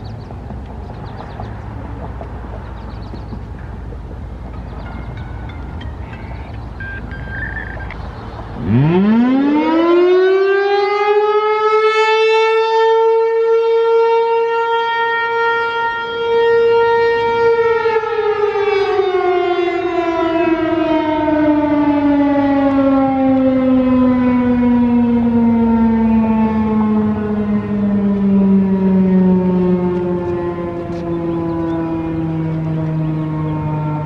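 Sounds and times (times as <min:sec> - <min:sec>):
mechanical rotating siren: 0:04.3 - 0:34.0.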